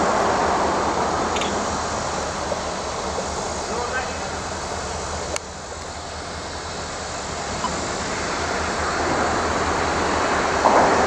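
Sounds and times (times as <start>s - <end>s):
locomotive engine rumble: 0.0s - 11.0s.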